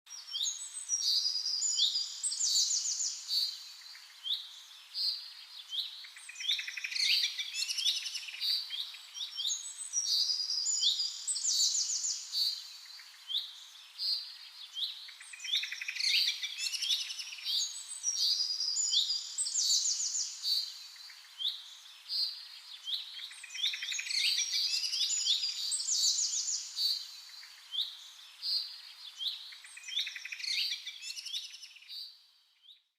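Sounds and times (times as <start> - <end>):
songbirds chirping and singing: 0.2 - 32.8.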